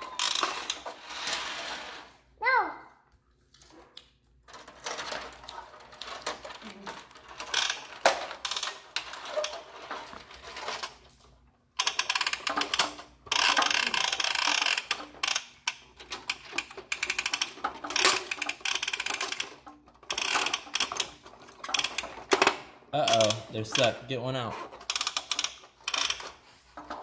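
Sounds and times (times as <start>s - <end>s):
toy lift mechanism clicking and rattling: 0.0s - 2.1s, 3.7s - 27.0s.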